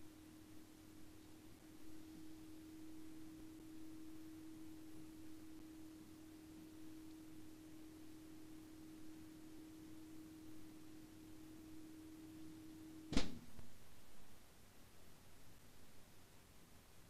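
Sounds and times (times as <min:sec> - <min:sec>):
faint low hum: 0:00.0 - 0:17.0
light hiss: 0:00.0 - 0:17.0.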